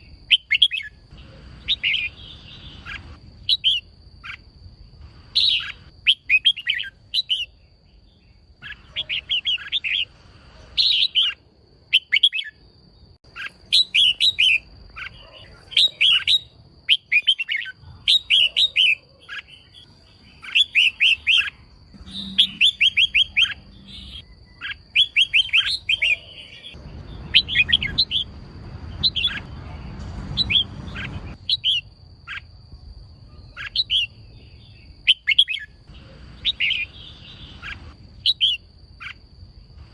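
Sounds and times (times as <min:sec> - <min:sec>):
bird chirping sharply: 0:00.0 - 0:04.4, 0:05.3 - 0:12.6, 0:13.2 - 0:32.5, 0:33.2 - 0:39.2.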